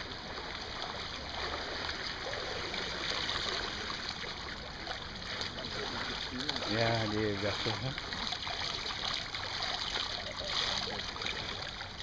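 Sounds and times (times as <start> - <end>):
water splashing from swimming: 0.0 - 12.0.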